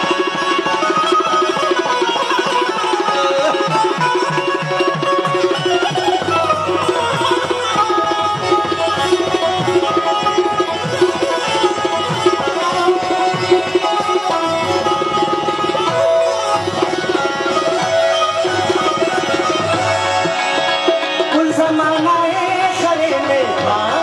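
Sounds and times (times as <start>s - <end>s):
sustained melody instrument: 0.0s - 24.0s
tabla drumming: 0.0s - 24.0s.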